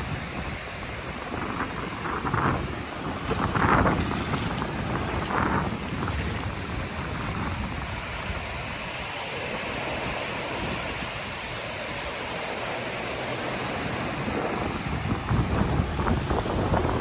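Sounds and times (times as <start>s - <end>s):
ocean surf rushing: 0.0s - 17.0s
wind: 0.0s - 17.0s.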